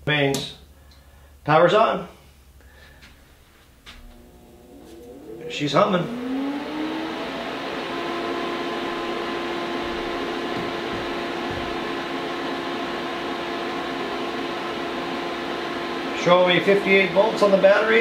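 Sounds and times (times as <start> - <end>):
inverter hum: 2.5 - 18.0.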